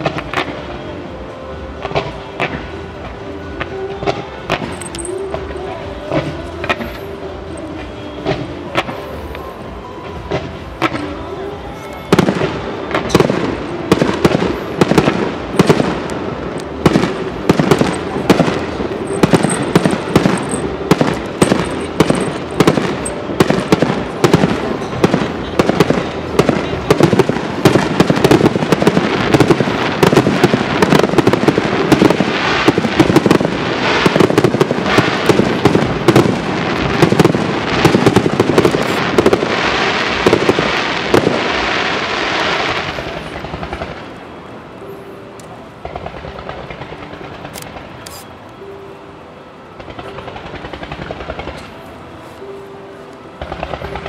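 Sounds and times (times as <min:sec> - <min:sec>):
fireworks bursting: 0:00.0 - 0:48.8, 0:49.7 - 0:54.0.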